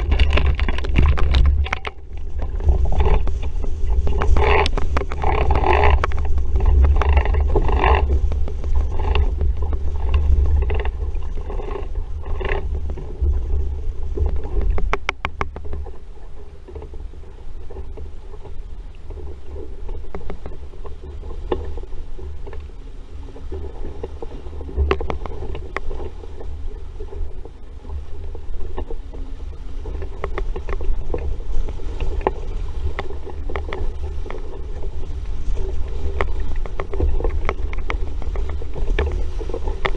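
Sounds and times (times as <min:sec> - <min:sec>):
water splashing along a hull: 0:00.0 - 0:39.9
wind rumbling on microphone: 0:00.0 - 0:39.9.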